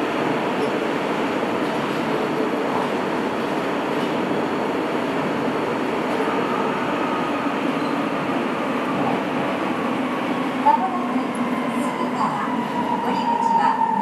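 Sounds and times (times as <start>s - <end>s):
subway train running: 0.0s - 14.0s.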